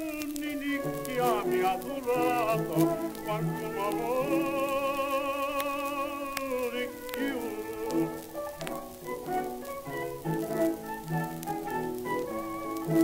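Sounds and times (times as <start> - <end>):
folk song melody with vibrato: 0.0 - 13.0.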